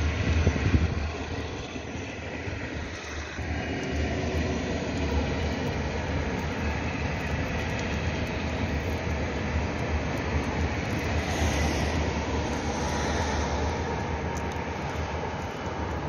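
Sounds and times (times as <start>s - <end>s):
distant train rumbling past: 0.0s - 16.0s.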